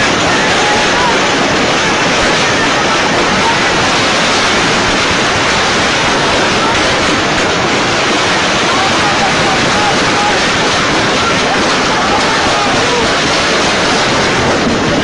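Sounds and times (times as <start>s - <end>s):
loud steady hiss: 0.0s - 15.0s.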